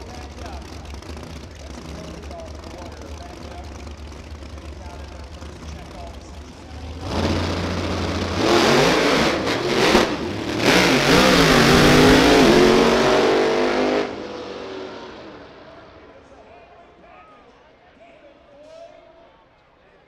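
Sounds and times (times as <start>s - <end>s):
drag racing cars at full throttle: 0.0s - 16.5s.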